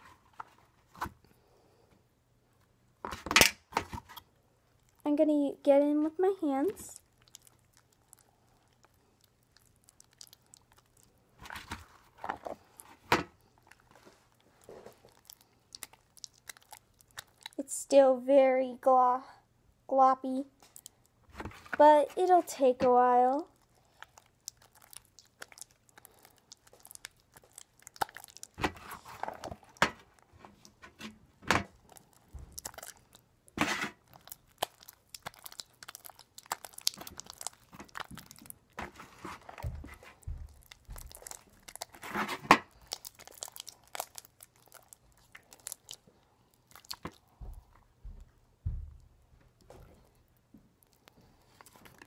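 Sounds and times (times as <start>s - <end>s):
slime squelching and crackling: 4.0s - 17.8s, 20.6s - 48.0s, 49.9s - 52.0s.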